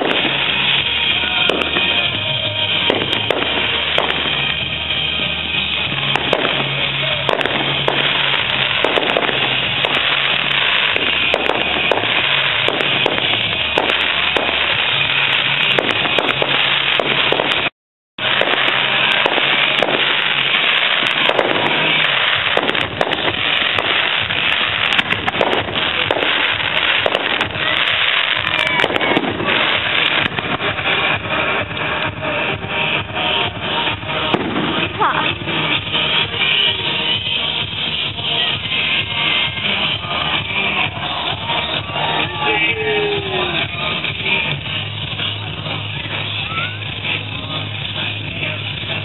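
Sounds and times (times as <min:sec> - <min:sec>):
fireworks bangs and crackles: 0:00.0 - 0:49.0
music playing: 0:00.0 - 0:49.0.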